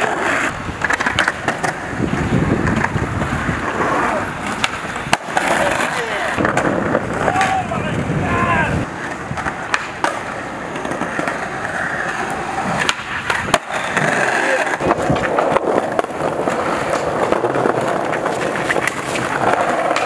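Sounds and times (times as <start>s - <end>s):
skateboard clacking on ground: 0.0s - 20.0s
skateboard grinding on concrete ledge: 0.0s - 20.0s
skateboard wheels rolling on concrete: 0.0s - 20.0s.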